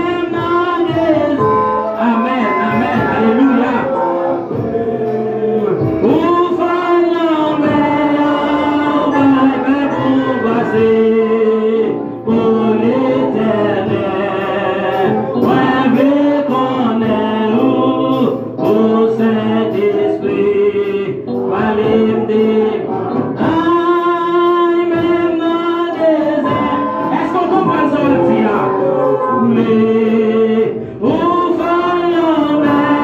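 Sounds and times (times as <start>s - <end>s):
gospel group singing: 0.0s - 33.0s
instrumental backing: 0.0s - 33.0s.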